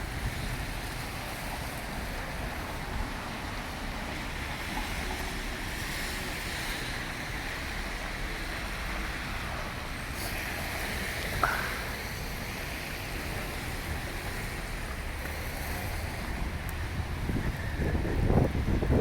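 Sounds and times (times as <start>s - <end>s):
street traffic hiss: 0.0s - 19.0s
wind buffeting the microphone: 0.0s - 19.0s.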